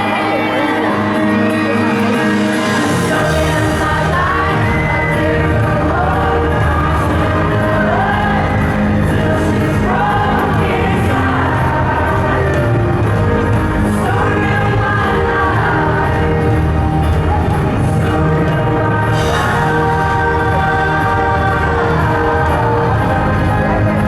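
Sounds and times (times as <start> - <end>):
men singing with live band: 0.0 - 24.0.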